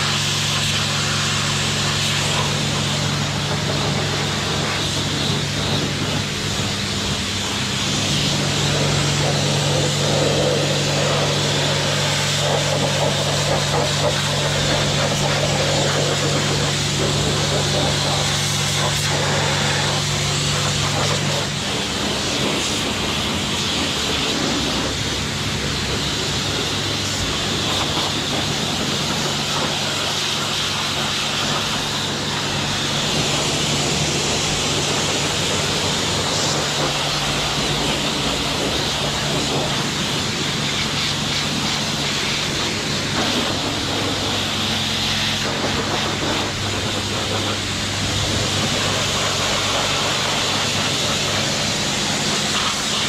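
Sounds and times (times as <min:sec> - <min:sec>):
high-pressure water jet hissing: 0:00.0 - 0:53.0
pressure washer motor hum: 0:00.0 - 0:53.0.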